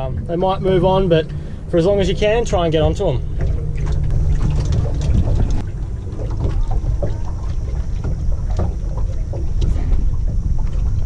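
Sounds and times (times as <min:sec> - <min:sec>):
boat knocks: 0:00.0 - 0:11.0
low rumble: 0:00.0 - 0:11.0
wind buffeting microphone: 0:00.0 - 0:11.0.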